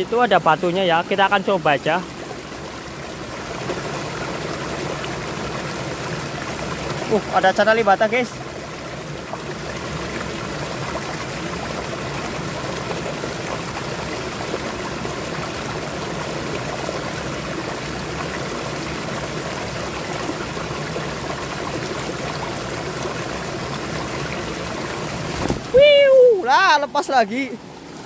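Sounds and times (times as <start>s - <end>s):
stream flowing over rocks: 0.0s - 28.0s.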